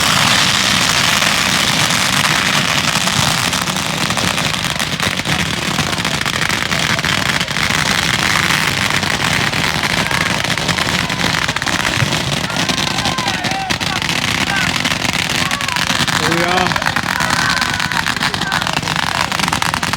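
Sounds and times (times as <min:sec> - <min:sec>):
fireworks crackling: 0:00.0 - 0:19.9.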